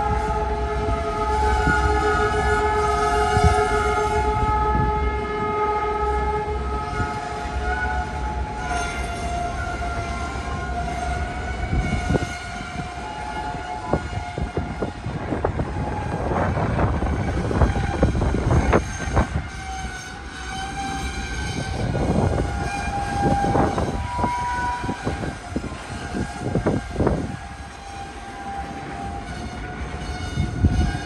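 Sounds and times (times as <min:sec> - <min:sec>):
train cars rumbling past: 0:00.0 - 0:31.0.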